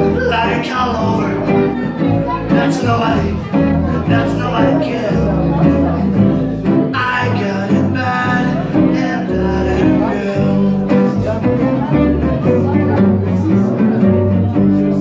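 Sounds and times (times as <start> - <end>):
acoustic guitars playing jazz: 0.0 - 15.0
plucked double bass: 0.0 - 15.0.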